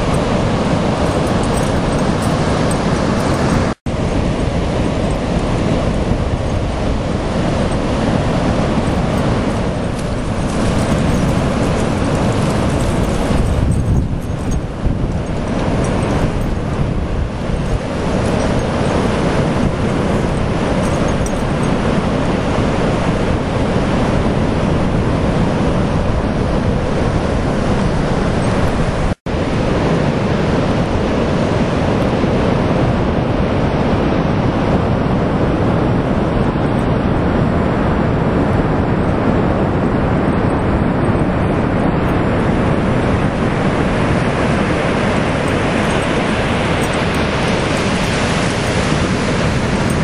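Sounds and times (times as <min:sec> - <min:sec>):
ocean surf breaking: 0:00.0 - 0:13.6, 0:14.2 - 0:50.0
wind rumbling on microphone: 0:00.0 - 0:50.0.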